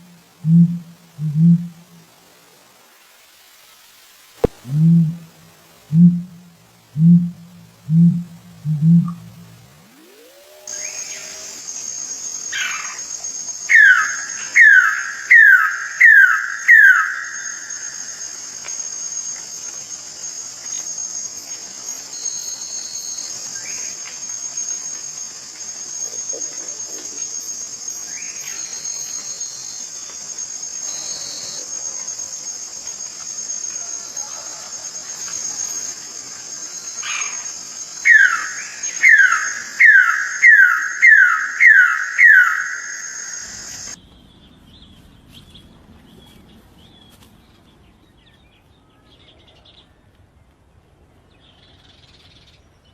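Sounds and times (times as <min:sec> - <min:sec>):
insect chorus: 0:00.0 - 0:49.8, 0:51.3 - 0:52.9.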